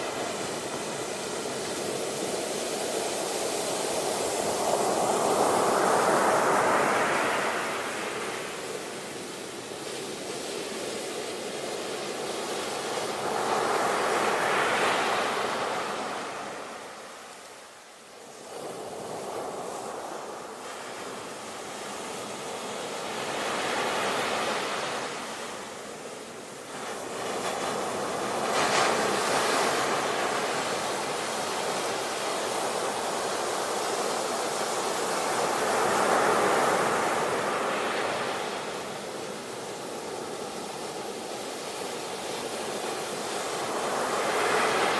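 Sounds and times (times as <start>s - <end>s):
waves breaking on shore: 0.0s - 44.9s.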